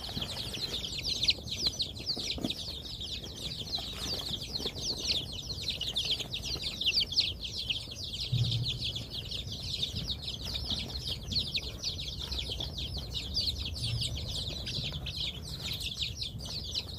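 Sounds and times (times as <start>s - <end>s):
chicks peeping: 0.0s - 16.9s.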